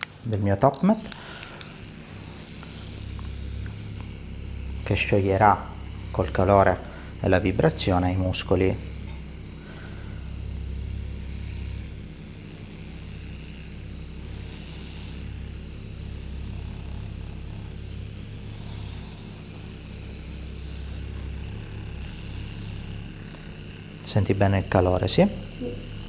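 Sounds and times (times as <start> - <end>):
massager motor hum: 0.0 - 26.0.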